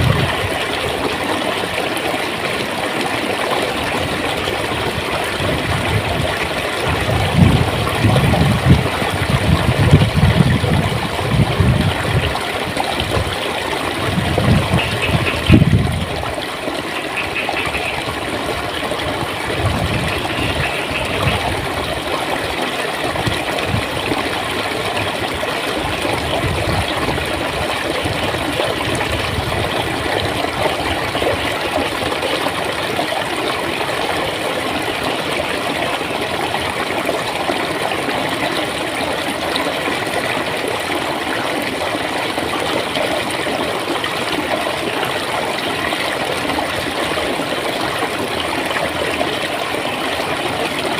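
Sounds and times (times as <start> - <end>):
water flowing over rocks: 0.0 - 50.9.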